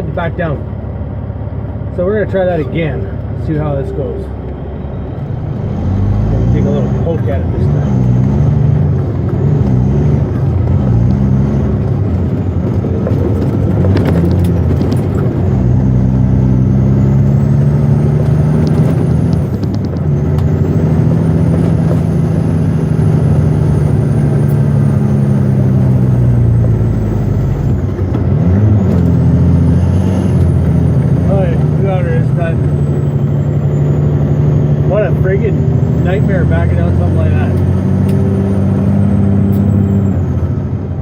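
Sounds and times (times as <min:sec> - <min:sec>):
truck diesel engine under load: 0:00.0 - 0:41.0.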